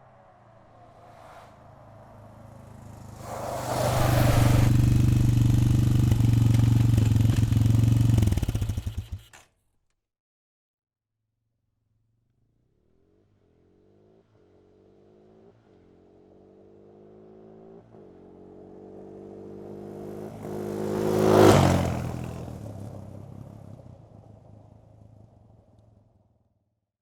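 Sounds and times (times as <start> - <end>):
quad bike engine passing: 0.0 - 9.4, 12.6 - 25.7.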